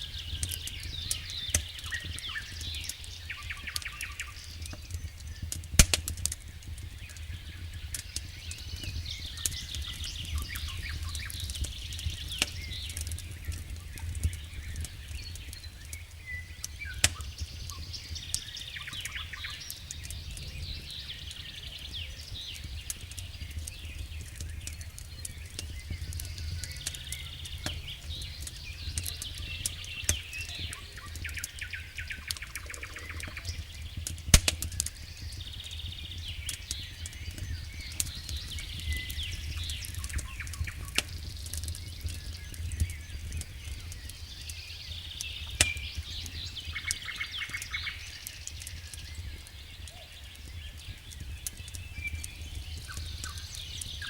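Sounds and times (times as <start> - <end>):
sharp pops from fire: 0.0 - 54.0
wood fire crackling: 0.0 - 54.0.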